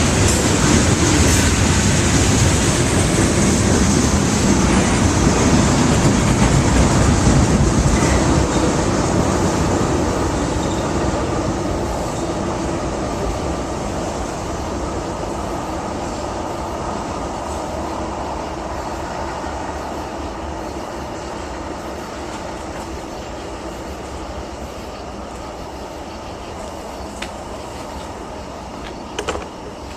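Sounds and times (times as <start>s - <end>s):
freight train wheels rattling on track: 0.0s - 29.9s.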